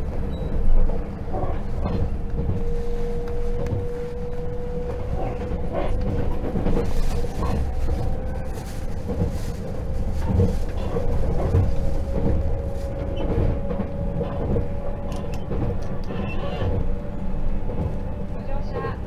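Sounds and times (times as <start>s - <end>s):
wheels rumbling on track: 0.0s - 19.0s.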